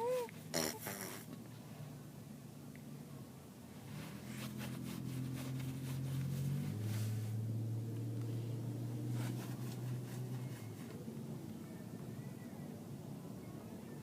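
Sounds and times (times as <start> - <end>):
car engine drone inside cabin: 1.4 - 14.0.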